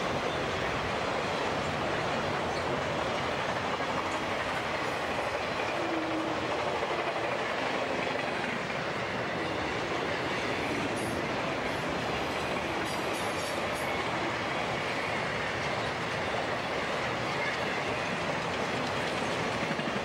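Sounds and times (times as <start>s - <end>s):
freight train wheels on rail: 0.0s - 20.0s.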